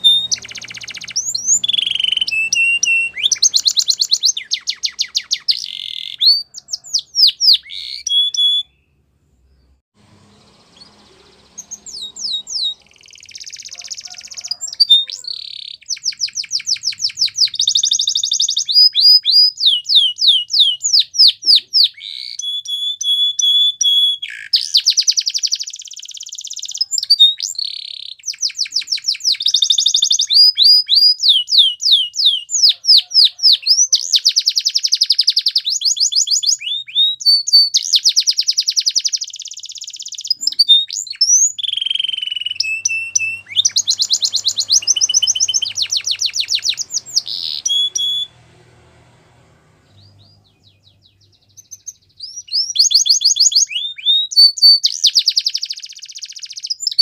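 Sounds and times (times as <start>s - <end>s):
canary singing trills: 0.0s - 48.5s, 49.8s - 57.0s.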